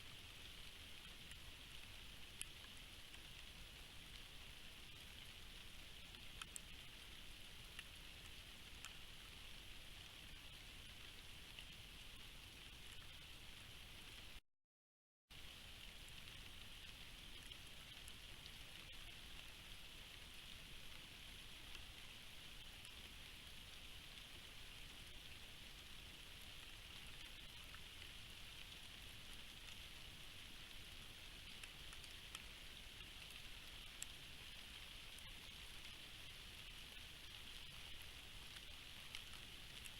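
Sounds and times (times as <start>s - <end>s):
steady rain hiss: 0.0s - 14.4s, 15.3s - 39.9s
raindrops ticking: 0.1s - 13.3s, 15.4s - 39.9s.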